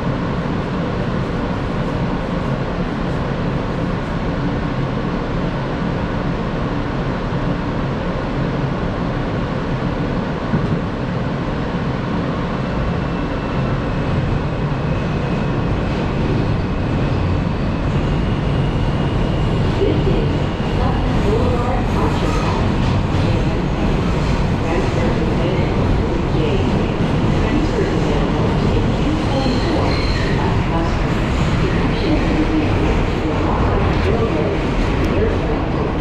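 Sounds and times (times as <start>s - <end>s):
subway car noise: 0.0s - 36.0s.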